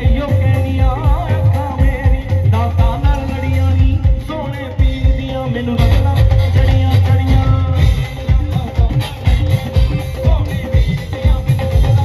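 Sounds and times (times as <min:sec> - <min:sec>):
heavy drum beat: 0:00.0 - 0:12.0
live band music: 0:00.0 - 0:12.0.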